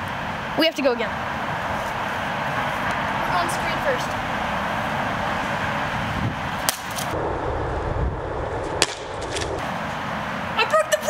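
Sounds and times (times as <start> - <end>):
highway traffic noise: 0.0 - 11.0.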